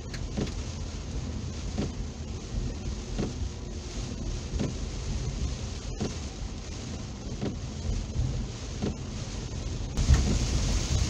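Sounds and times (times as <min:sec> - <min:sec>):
car rumbling on wet road: 0:00.0 - 0:11.0
heavy rain on a car: 0:00.0 - 0:11.0
windshield wipers sweeping: 0:00.0 - 0:11.0.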